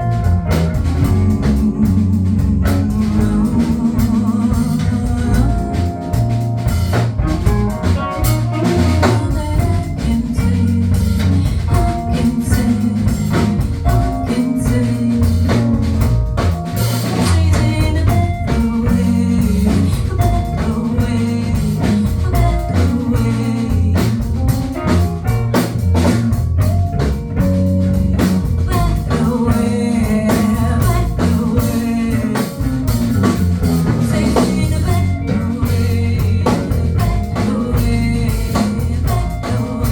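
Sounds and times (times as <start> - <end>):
person singing: 0.0 - 6.4, 7.3 - 25.1, 28.5 - 39.9
drum kit beat: 0.0 - 39.9
live band playing: 0.0 - 39.9.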